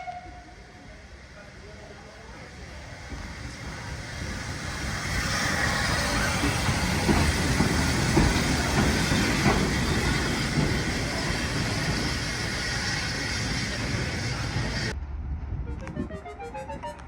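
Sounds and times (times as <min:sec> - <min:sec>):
steam train passing: 0:00.0 - 0:15.0
steam hissing: 0:00.4 - 0:15.0
train wheel clatter: 0:00.9 - 0:15.0.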